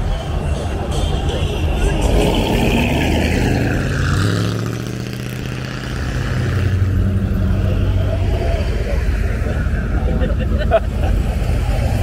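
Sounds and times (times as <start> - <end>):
car engines rumbling past: 0.0 - 12.0.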